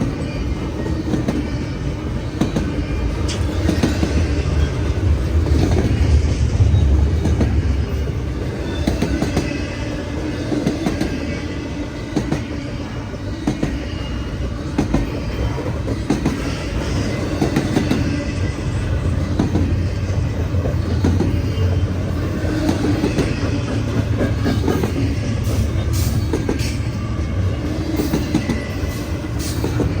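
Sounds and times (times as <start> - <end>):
train wheels clattering: 0.0 - 30.0.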